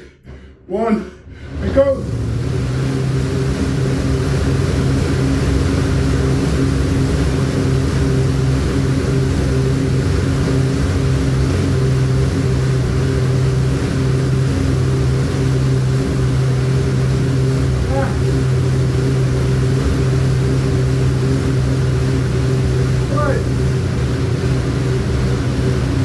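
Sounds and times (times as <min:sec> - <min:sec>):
air bike fan rushing: 0:00.0 - 0:26.0.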